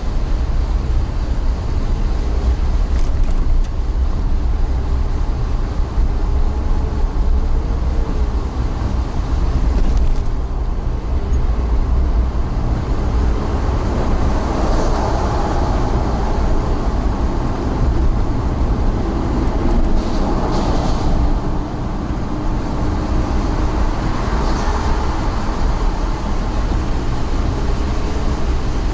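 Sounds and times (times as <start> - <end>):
vehicle rumbling: 0.0 - 28.9.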